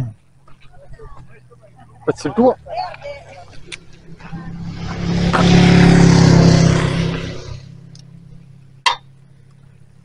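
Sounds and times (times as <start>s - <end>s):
vehicle passing by: 0.5s - 8.8s.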